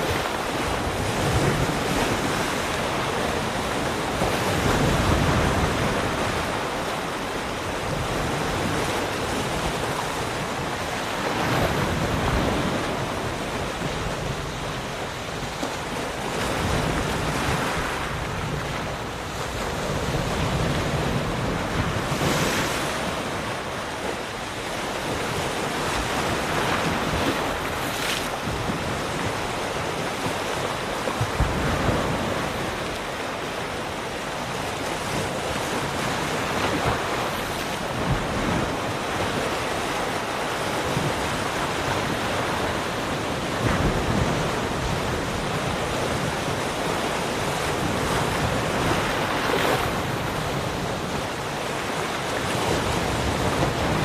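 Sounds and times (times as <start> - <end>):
waves breaking on shore: 0.0 - 54.0
wind noise on microphone: 0.0 - 54.0.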